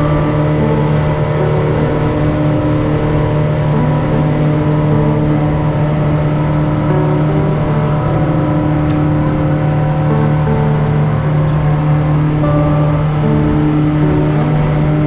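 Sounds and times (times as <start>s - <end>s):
outboard motors running: 0.0s - 15.0s.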